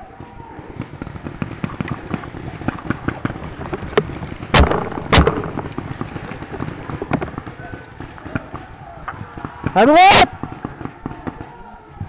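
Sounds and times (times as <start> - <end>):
paintball marker shots: 1.3 - 11.4.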